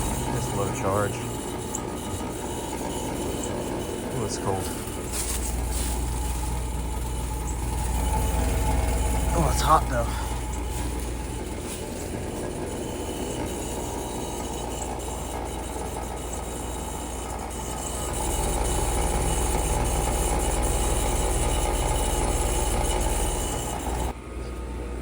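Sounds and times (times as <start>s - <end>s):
heat pump compressor and fan hum: 0.0s - 25.0s.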